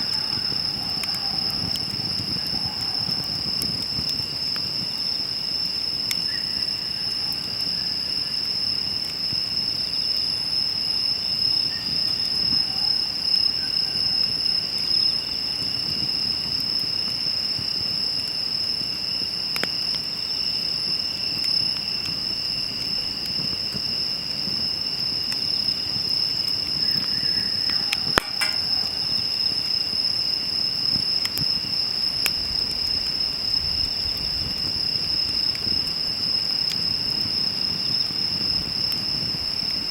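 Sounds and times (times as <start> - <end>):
campfire crackling and popping: 0.0 - 39.9
insects trilling: 0.0 - 39.9
low rumble of fire: 0.0 - 39.9.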